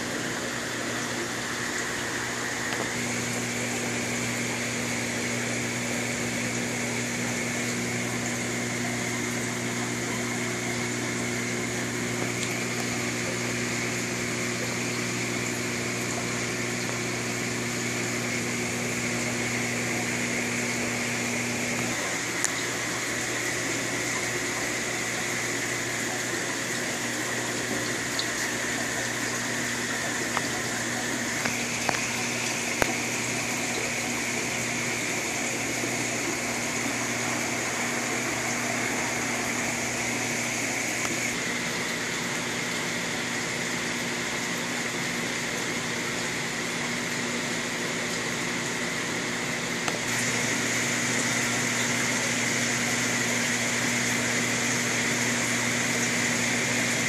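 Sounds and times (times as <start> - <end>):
aquarium pump hum: 0.0 - 57.0.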